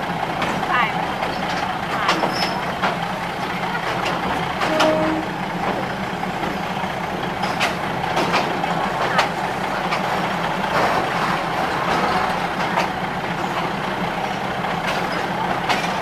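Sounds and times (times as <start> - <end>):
train rumbling over steel bridge: 0.0 - 16.0
wheels clicking and knocking on rails: 0.0 - 16.0.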